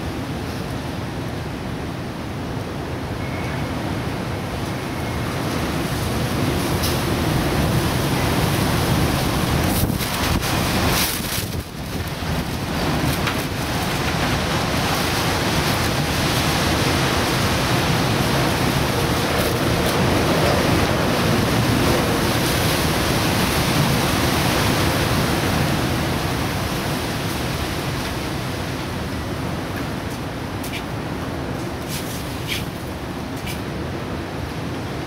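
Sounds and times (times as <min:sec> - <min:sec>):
strong wind blowing: 0:00.0 - 0:35.0.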